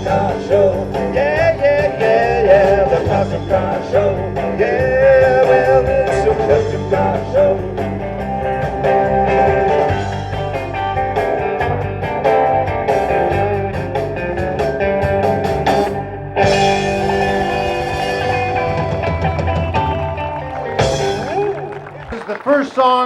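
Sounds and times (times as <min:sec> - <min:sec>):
electric guitar: 0:00.0 - 0:22.3
rock band playing: 0:00.0 - 0:23.0.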